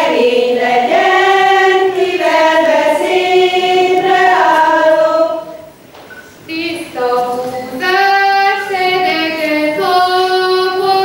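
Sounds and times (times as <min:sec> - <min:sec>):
women singing without instruments: 0:00.0 - 0:05.6, 0:06.5 - 0:11.0.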